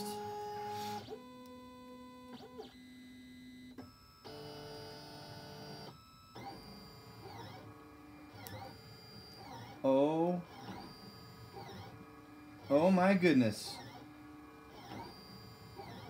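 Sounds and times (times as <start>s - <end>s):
printer stepper motors whining: 0.0s - 16.0s.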